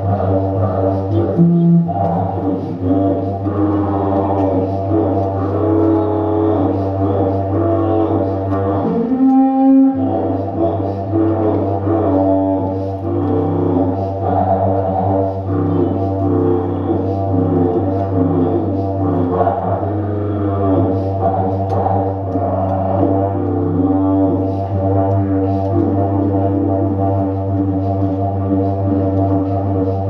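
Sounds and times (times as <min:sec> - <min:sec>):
didgeridoo drone: 0:00.0 - 0:30.0.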